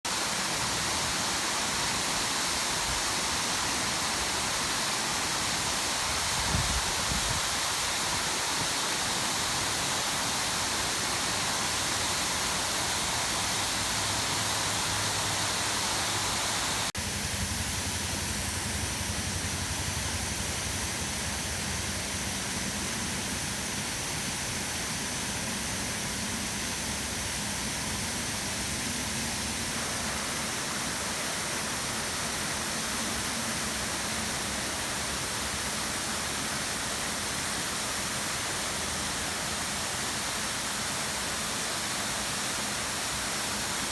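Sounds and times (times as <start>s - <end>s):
waterfall roaring: 0.1s - 43.9s.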